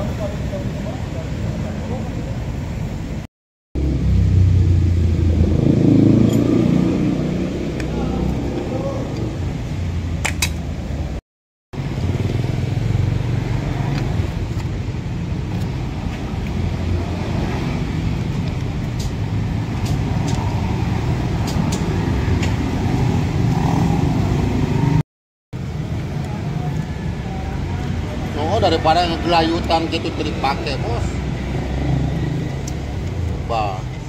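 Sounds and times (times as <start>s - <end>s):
low rumble of motor traffic: 0.0s - 11.2s, 11.8s - 25.0s, 25.6s - 34.0s.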